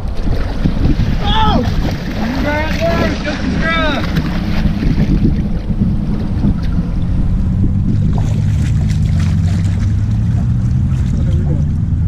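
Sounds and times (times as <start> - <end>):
road noise: 0.0 - 12.0
rushing wind: 0.0 - 12.0
truck engine hum: 0.0 - 12.0.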